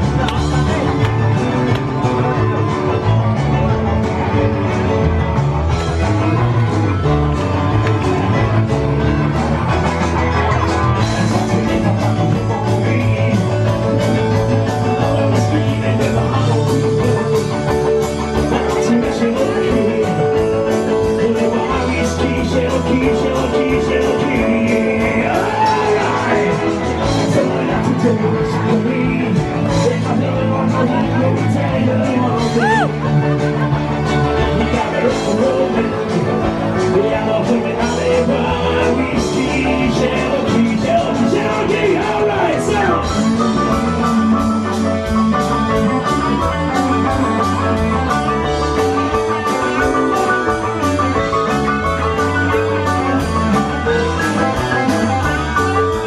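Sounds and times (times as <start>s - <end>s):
bass guitar: 0.0s - 56.0s
drums: 0.0s - 56.0s
electric guitar: 0.0s - 56.0s
rock band playing: 0.0s - 56.0s.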